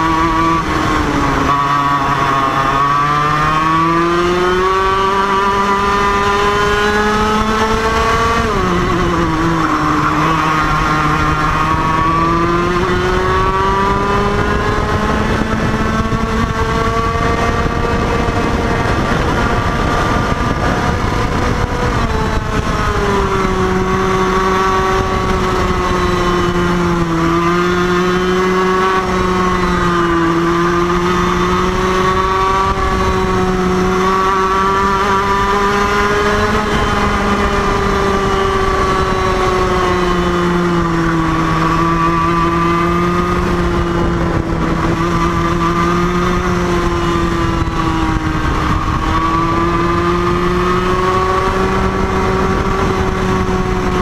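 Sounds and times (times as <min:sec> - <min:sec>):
kart engine at high revs: 0:00.0 - 0:54.0.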